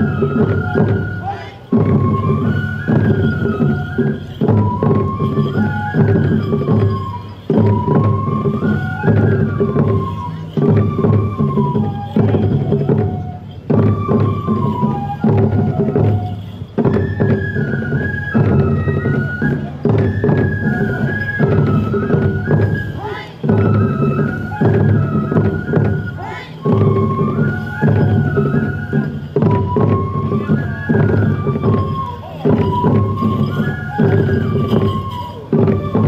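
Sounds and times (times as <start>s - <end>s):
bamboo flute melody: 0.0s - 36.0s
taiko drum strokes: 0.0s - 36.0s.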